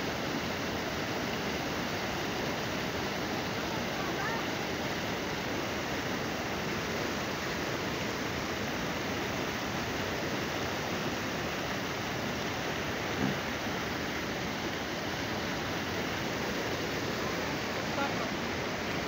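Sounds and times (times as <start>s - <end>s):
water rushing over a weir: 0.0s - 19.0s.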